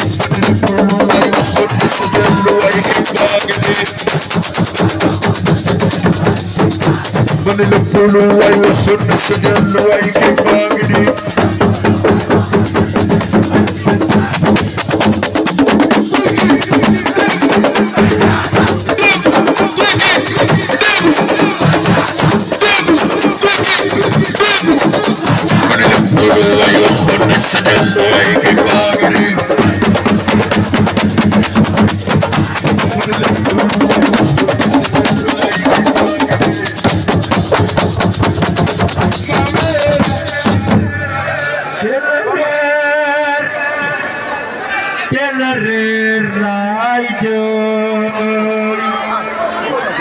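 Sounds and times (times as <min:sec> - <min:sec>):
fast hand drumming: 0:00.0 - 0:41.0
rattling shaker percussion: 0:00.0 - 0:41.9.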